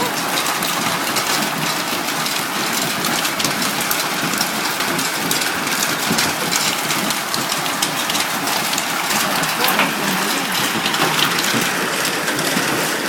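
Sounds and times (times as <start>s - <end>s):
hail and heavy rain: 0.0s - 13.0s.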